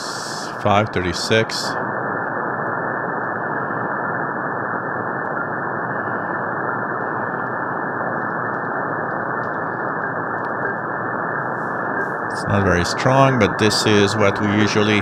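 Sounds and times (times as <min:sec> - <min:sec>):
shortwave radio static hiss: 0:00.0 - 0:15.0.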